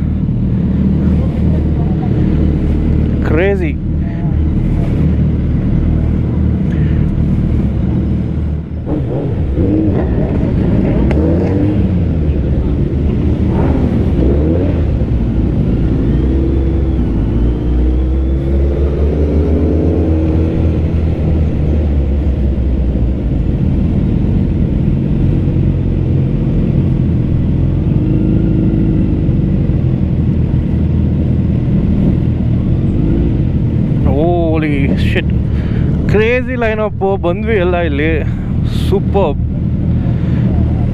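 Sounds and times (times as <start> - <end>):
motorcycle engines running: 0.0 - 40.9.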